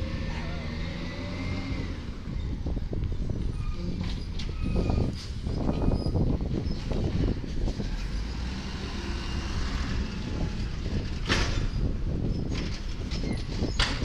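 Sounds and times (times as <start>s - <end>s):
garbage truck diesel engine rumbling: 0.0s - 14.0s.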